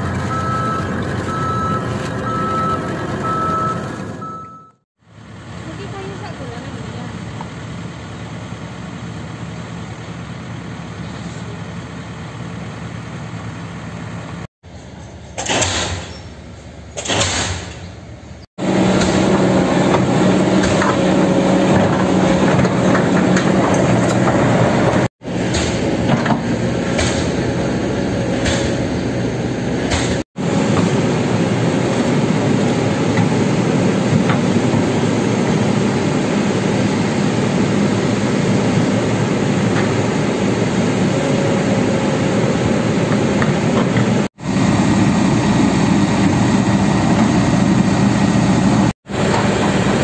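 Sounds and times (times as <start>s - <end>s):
excavator diesel engine: 0.0s - 17.4s, 18.0s - 50.0s.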